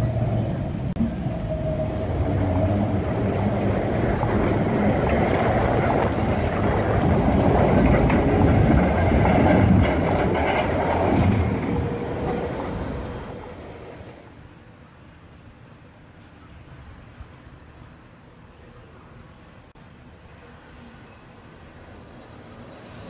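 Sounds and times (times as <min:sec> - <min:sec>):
tram rumbling on rails: 0:00.0 - 0:23.0.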